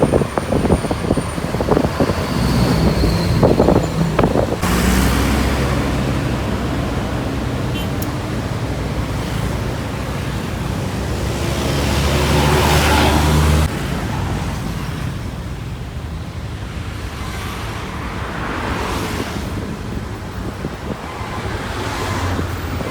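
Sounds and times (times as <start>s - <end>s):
bus engine passing: 0.0s - 22.9s
steady road noise: 0.0s - 22.9s
vehicles passing: 0.0s - 22.9s.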